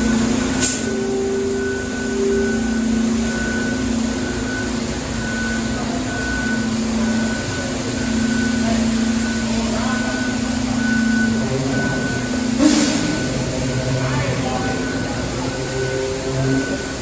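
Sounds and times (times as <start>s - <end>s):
back-up alarm beeping: 0.0s - 17.0s
engine droning: 0.0s - 17.0s.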